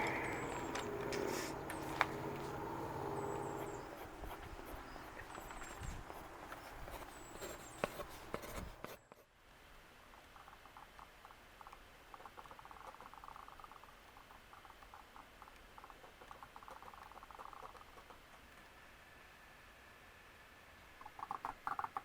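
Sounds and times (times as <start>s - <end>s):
faint rapid clicking and scratching: 0.0s - 18.8s, 21.0s - 22.0s.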